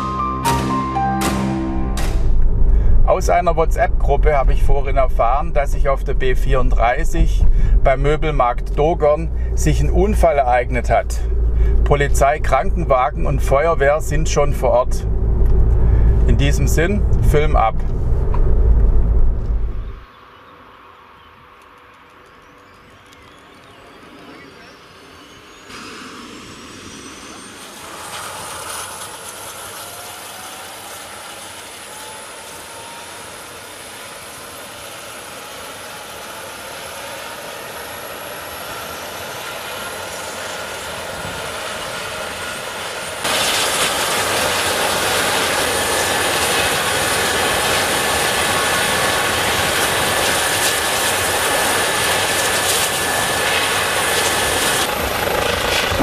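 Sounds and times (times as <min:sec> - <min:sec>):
helicopter turbine whine: 0:00.0 - 0:56.0
helicopter rotor noise: 0:02.2 - 0:20.0, 0:22.0 - 0:56.0.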